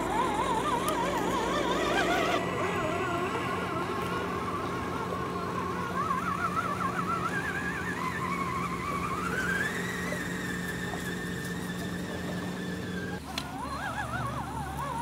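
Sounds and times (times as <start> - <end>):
electric motor and gear whine: 0.0 - 15.0.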